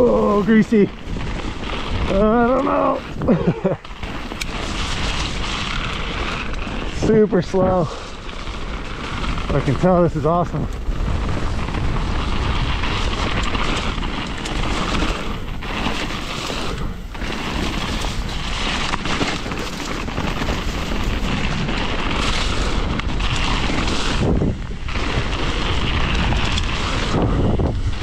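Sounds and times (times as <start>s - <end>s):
bike tyres rolling on dirt trail: 0.0s - 28.0s
wind buffeting microphone: 0.0s - 28.0s.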